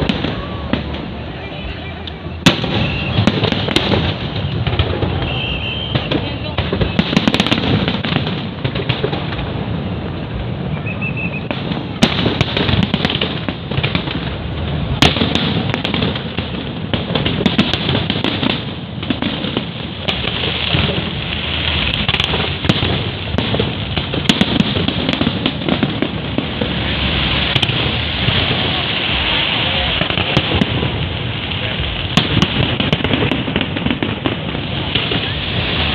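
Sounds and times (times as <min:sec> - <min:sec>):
fireworks bangs: 0:00.0 - 0:35.9
fireworks crackling: 0:00.0 - 0:35.9.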